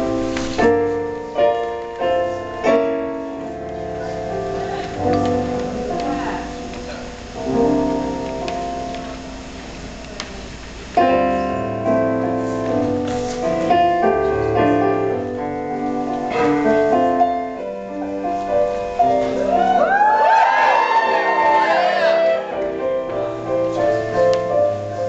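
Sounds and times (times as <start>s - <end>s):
piano: 0.0s - 25.0s
swing band playing: 0.0s - 25.0s.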